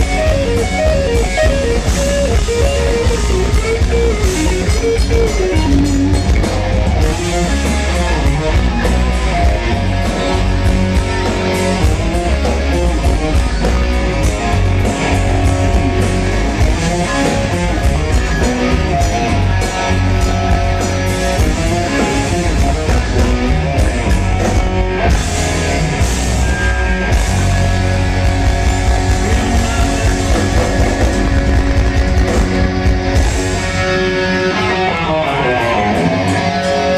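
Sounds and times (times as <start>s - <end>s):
drums: 0.0s - 36.9s
electric guitars: 0.0s - 36.9s.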